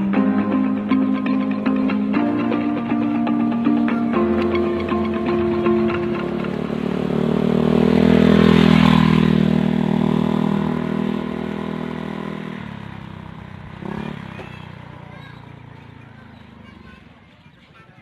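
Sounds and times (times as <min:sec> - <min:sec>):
motor vehicle passing by: 0:00.7 - 0:17.8.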